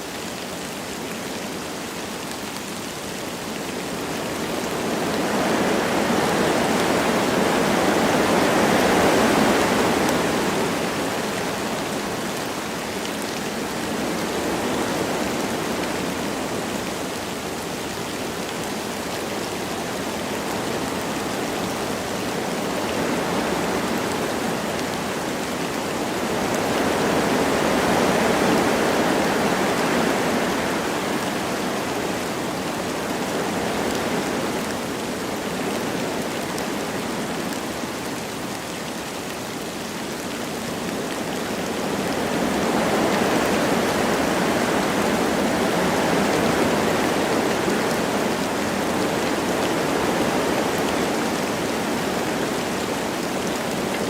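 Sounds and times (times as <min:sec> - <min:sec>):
wind gusting through trees: 0:00.0 - 0:54.0.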